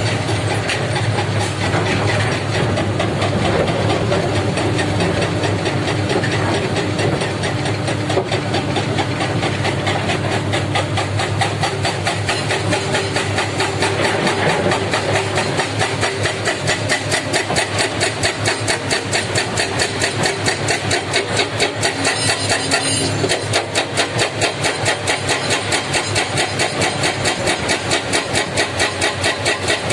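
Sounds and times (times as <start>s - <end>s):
heavy diesel engine pulsing: 0.0s - 29.9s.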